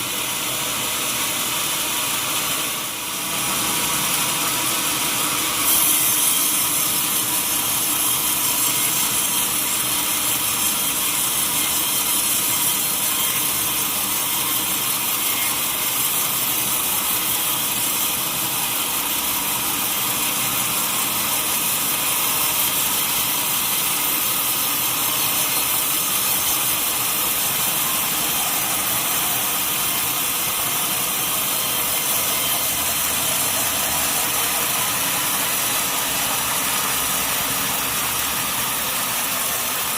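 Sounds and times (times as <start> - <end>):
mill machinery running: 0.0 - 39.9
saw cutting through log: 0.0 - 39.9.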